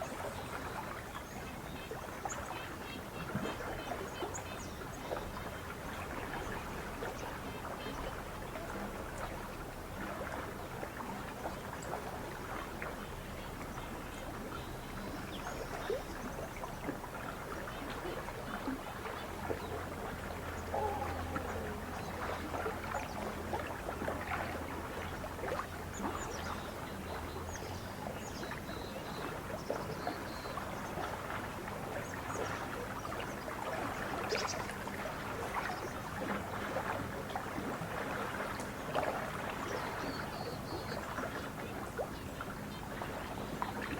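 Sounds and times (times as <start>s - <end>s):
low steady hum: 0.0s - 43.9s
water lapping at shore: 0.0s - 43.9s.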